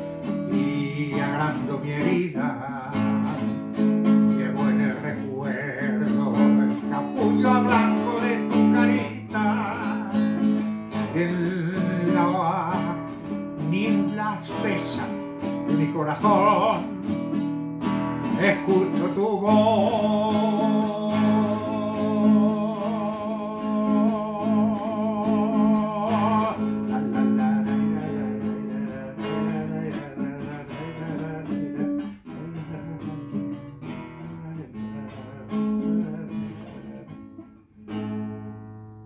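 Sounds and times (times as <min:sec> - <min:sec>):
man singing with vibrato: 0:00.0 - 0:38.7
nylon-string guitar: 0:00.0 - 0:39.0.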